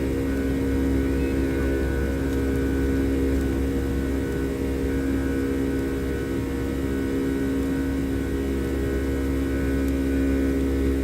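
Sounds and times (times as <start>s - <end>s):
jet engines drone from cabin: 0.0s - 11.0s.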